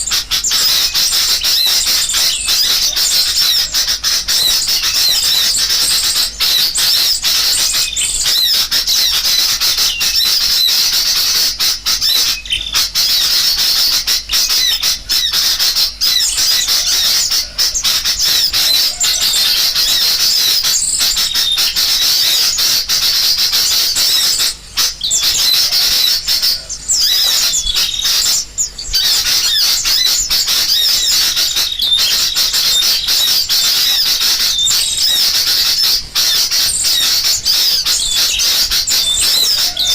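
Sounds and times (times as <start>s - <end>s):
bulbuls calling agitatedly: 0.0s - 39.9s
small songbirds calling: 0.0s - 39.9s.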